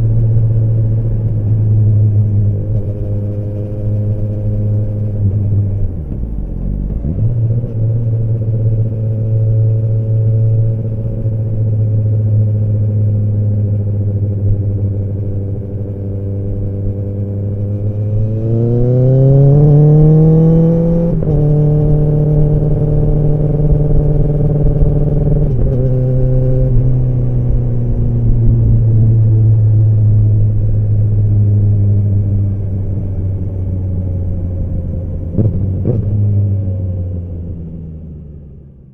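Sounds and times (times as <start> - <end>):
motorcycle exhaust revving: 0.0 - 37.3.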